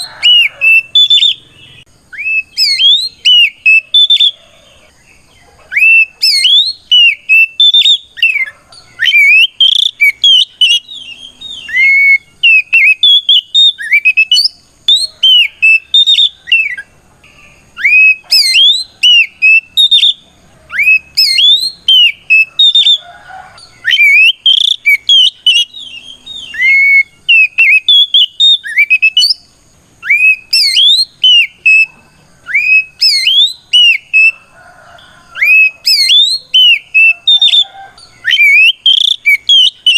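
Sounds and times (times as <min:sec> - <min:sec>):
bird singing whistled phrases: 0:00.0 - 0:04.5, 0:05.7 - 0:34.4, 0:35.4 - 0:39.9.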